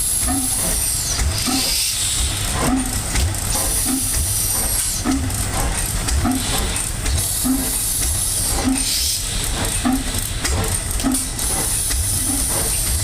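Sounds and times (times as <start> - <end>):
stationary gas engine running slowly: 0.0 - 13.0.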